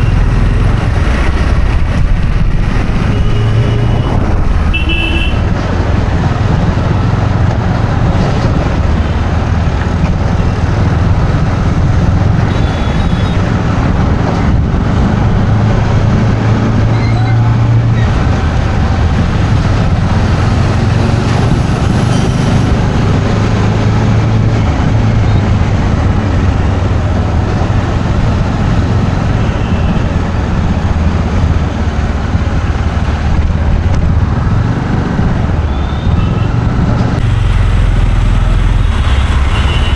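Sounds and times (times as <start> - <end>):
engine low drone: 0.0 - 39.9
tyre and traffic noise: 0.0 - 39.9.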